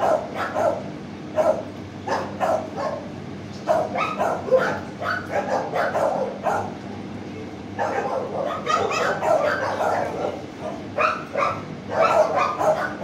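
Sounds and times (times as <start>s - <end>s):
dogs barking: 0.0s - 6.8s, 7.7s - 13.0s.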